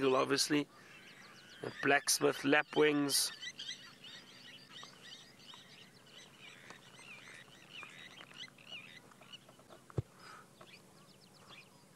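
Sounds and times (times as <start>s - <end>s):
small birds chirping and warbling: 0.0s - 11.9s.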